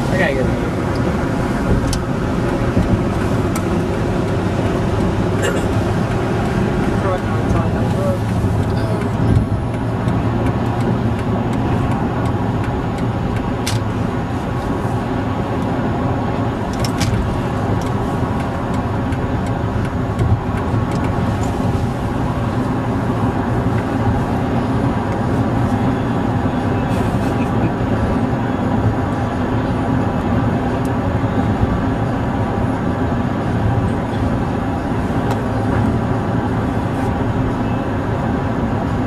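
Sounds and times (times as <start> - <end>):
car engine and tyre road noise: 0.0 - 39.0.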